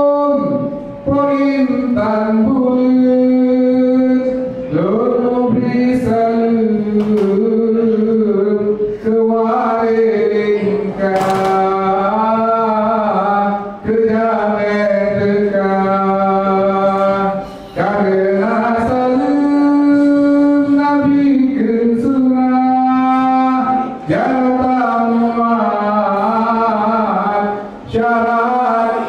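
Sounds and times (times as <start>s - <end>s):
vocal chant with sliding notes: 0.0s - 29.0s.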